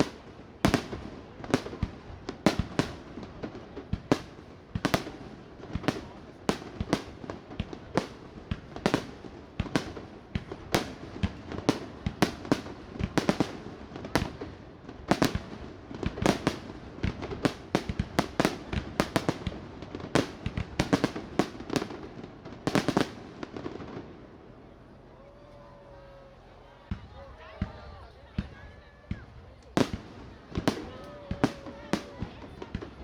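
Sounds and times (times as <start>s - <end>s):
fireworks bangs and pops: 0.0s - 24.4s, 26.8s - 33.0s
fireworks crackle: 0.0s - 24.6s, 26.9s - 33.0s.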